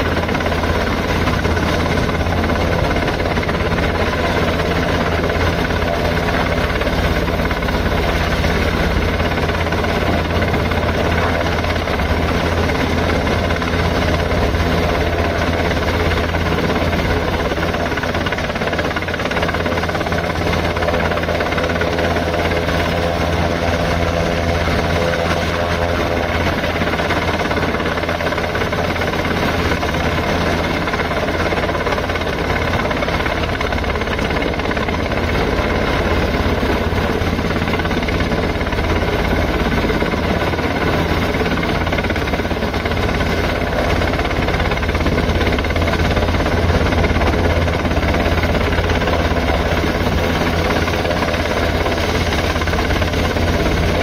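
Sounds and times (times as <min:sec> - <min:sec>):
helicopter rotors and engine drone: 0:00.0 - 0:54.0.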